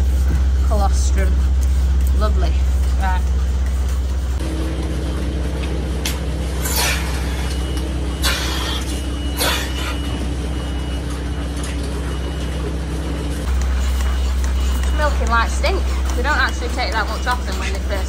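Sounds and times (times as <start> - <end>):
vacuum system humming: 0.0 - 18.0.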